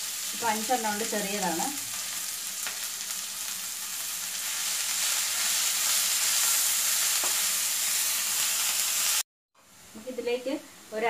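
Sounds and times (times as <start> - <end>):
onions sizzling in oil: 0.0 - 9.2.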